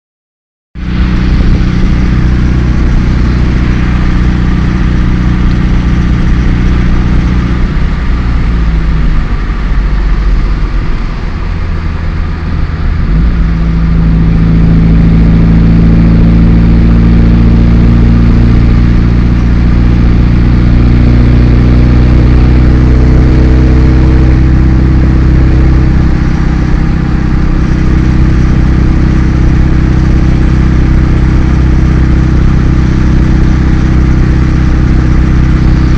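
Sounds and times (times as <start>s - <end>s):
car engine running: 0.8s - 35.9s.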